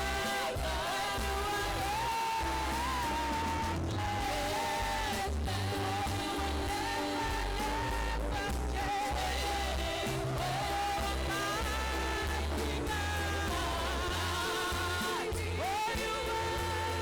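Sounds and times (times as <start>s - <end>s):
bass line: 0.0s - 17.0s
person singing long notes: 0.0s - 17.0s.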